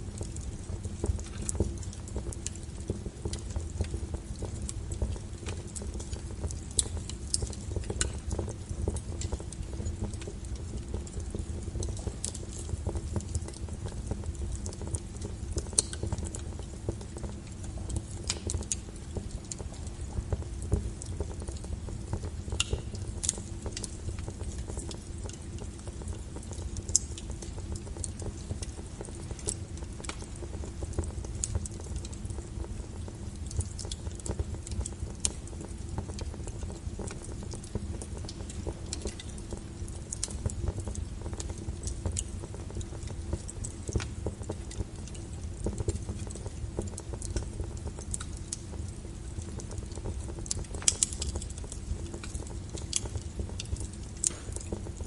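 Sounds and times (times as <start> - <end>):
fire rumbling in fireplace: 0.0 - 55.0
wood crackling and popping: 0.0 - 55.0.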